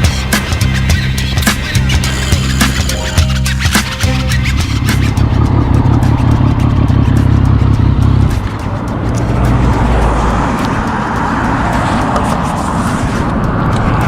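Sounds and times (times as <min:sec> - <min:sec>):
motorcycle engine running: 0:00.0 - 0:14.0
road noise: 0:00.0 - 0:14.0
wind noise: 0:00.0 - 0:14.0.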